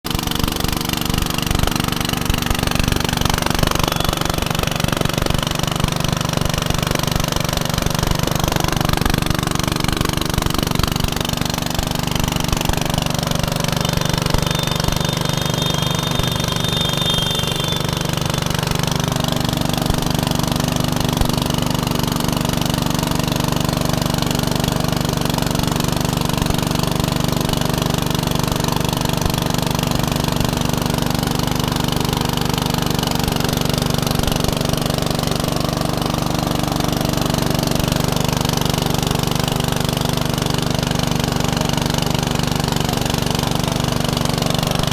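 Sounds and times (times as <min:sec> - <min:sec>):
grinding machine knocking and droning: 0:00.0 - 0:44.9.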